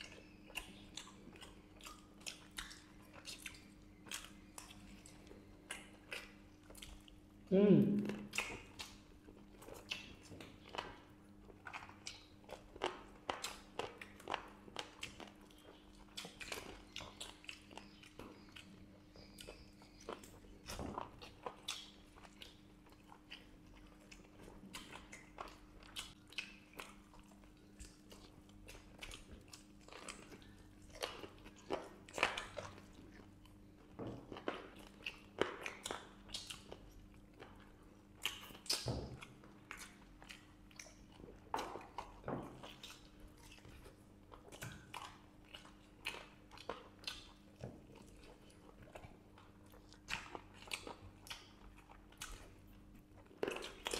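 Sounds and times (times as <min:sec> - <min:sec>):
faint electrical hum: 0:00.0 - 0:53.9
people chewing chicken: 0:00.0 - 0:53.9.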